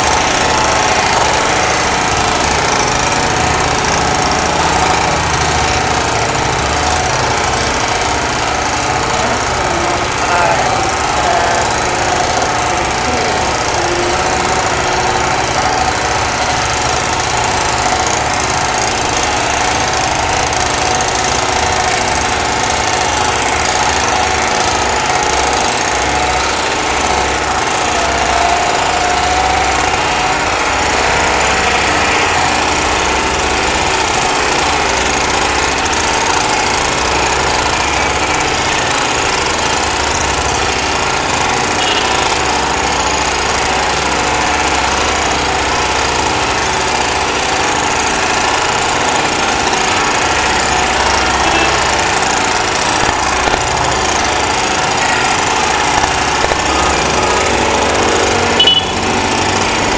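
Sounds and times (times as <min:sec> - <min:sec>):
engine-driven pump running: 0:00.0 - 0:59.9.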